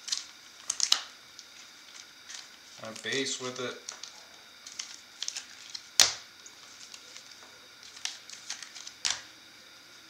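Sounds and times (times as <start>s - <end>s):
cards handled with ticks and rustles: 0.0s - 9.3s.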